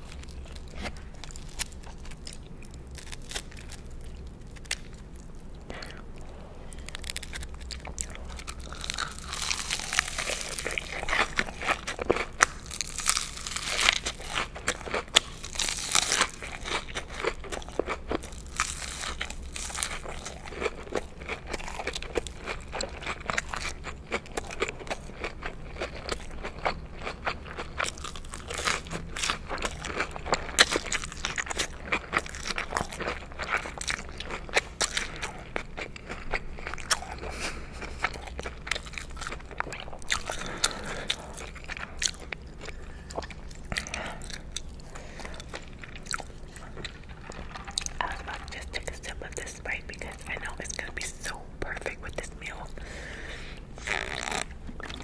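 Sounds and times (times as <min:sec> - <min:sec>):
crunching and chewing: 0:00.0 - 0:55.0.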